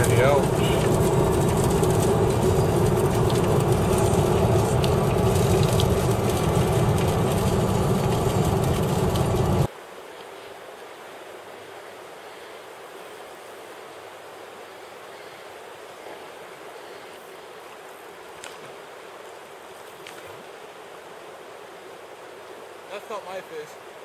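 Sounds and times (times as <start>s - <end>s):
river rushing: 0.0s - 19.8s, 20.4s - 24.0s.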